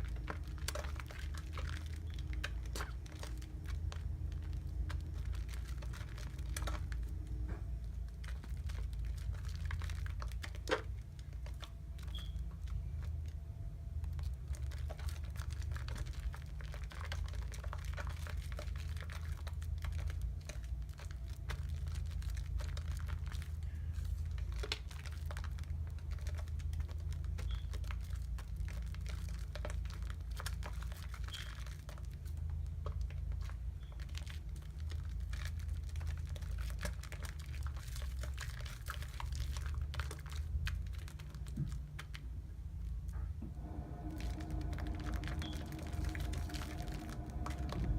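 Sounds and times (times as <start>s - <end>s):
soap lather crackling: 0.0s - 43.0s, 43.6s - 47.9s
low steady rumble: 0.0s - 47.9s.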